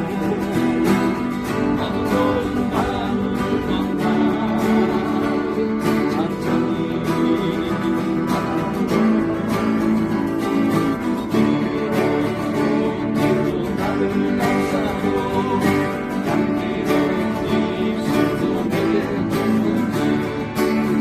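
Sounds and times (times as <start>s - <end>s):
acoustic guitar strummed: 0.0s - 21.0s
person singing: 0.0s - 21.0s.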